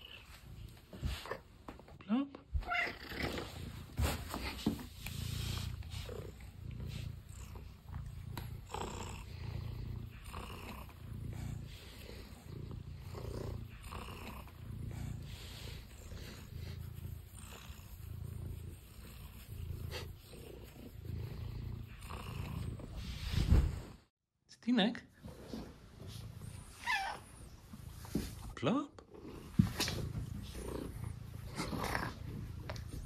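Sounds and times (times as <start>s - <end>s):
cat purring: 0.0s - 1.7s, 2.7s - 23.9s, 25.5s - 33.0s.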